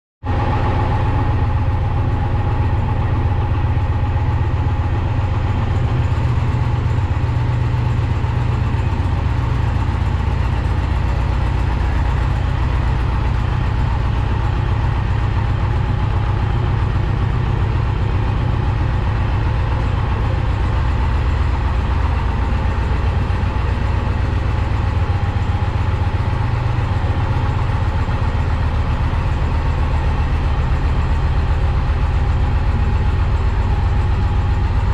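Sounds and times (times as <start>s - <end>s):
motorcycle engine idling: 0.3s - 34.9s.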